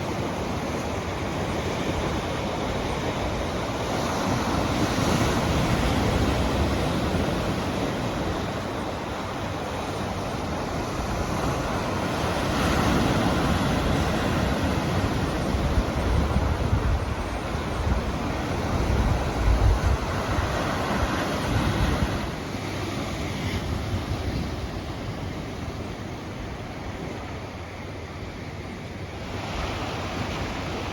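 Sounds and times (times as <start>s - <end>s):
ocean surf washing ashore: 0.0s - 30.9s
wind rumbling on microphone: 0.0s - 30.9s.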